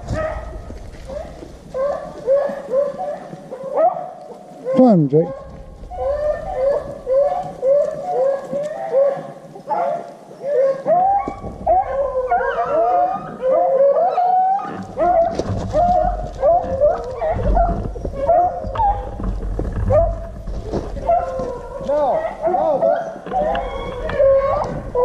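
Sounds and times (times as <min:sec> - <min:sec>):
hounds baying: 0:00.0 - 0:25.0.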